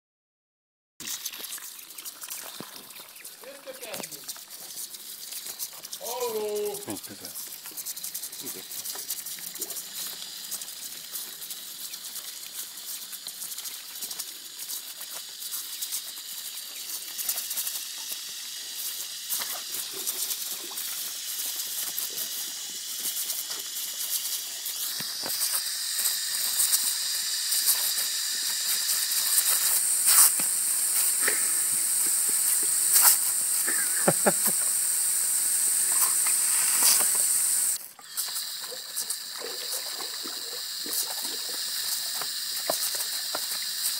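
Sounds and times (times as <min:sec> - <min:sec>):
hose nozzle hissing: 0:01.0 - 0:43.9
water spattering: 0:01.0 - 0:43.9.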